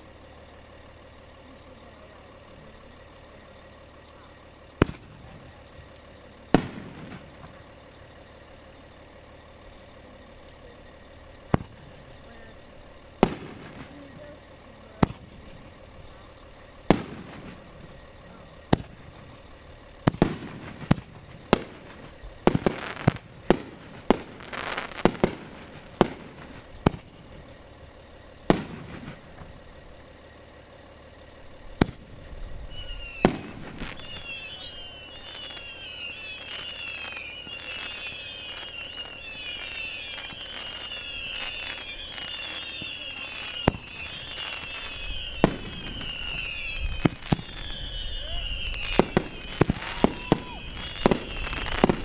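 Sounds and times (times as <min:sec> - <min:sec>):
fireworks bangs: 0:00.0 - 0:52.0
fireworks crackling: 0:00.0 - 0:52.0.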